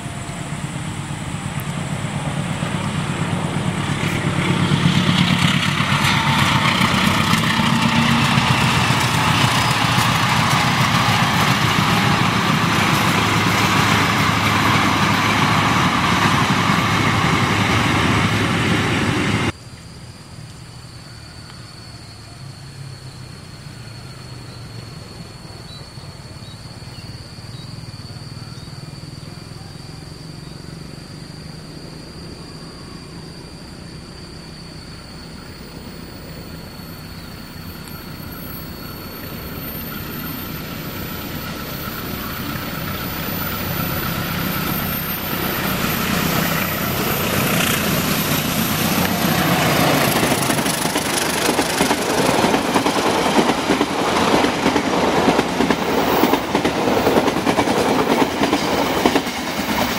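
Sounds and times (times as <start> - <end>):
diesel train rumbling past: 0.0 - 59.9.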